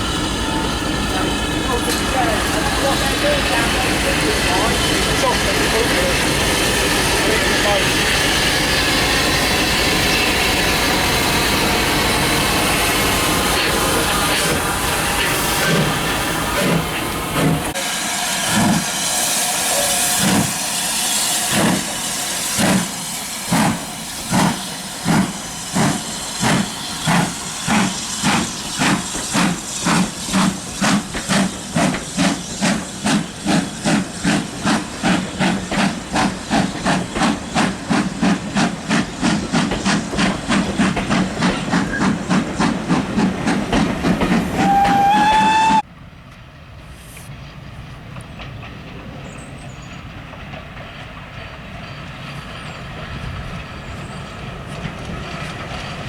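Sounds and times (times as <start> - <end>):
steam hissing: 0.0 - 45.8
steam locomotive exhaust beats: 0.0 - 56.0.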